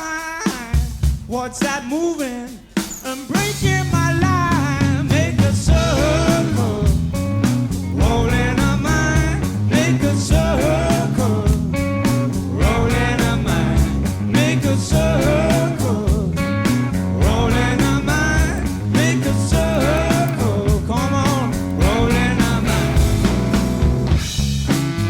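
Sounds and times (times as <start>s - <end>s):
drum beat: 0.0s - 16.3s, 17.2s - 24.4s
instrumental rock music: 2.6s - 25.0s
bending guitar lead: 3.0s - 25.0s
bass line: 3.4s - 25.0s.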